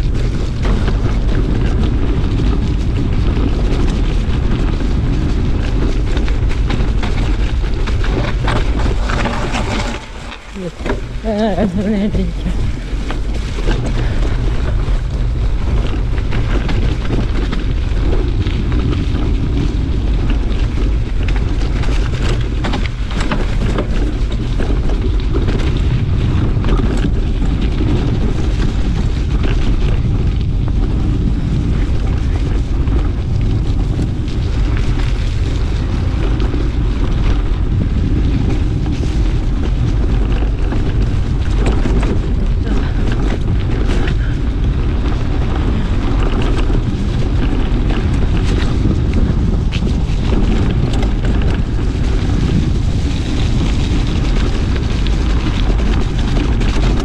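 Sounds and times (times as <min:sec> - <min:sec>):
bike rattles and clicks: 0:00.0 - 0:57.0
tyres rumbling on dirt: 0:00.0 - 0:57.0
wind buffeting microphone: 0:00.0 - 0:57.0.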